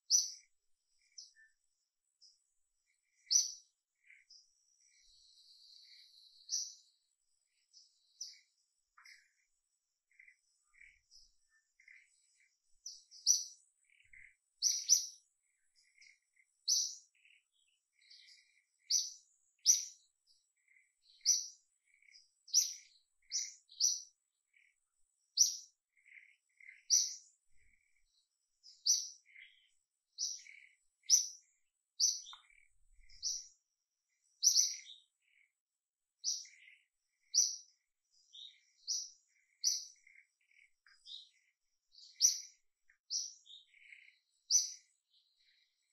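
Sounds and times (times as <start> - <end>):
small bird chirping: 0.0 - 45.9.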